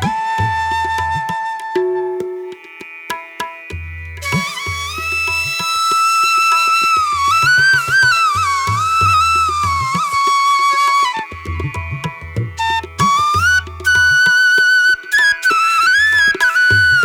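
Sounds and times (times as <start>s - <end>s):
percussion beat: 0.0s - 17.0s.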